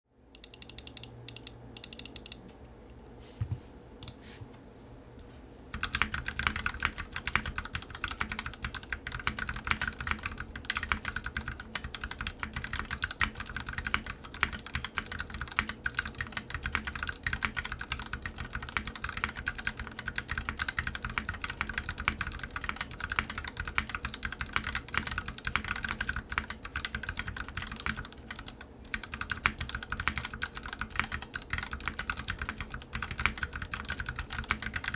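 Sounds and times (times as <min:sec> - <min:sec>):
typing on mechanical keyboard: 0:05.7 - 0:34.9.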